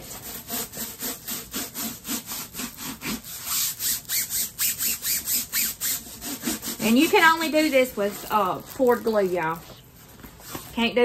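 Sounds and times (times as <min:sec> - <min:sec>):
rhythmic rubbing and swishing: 0:00.0 - 0:10.5.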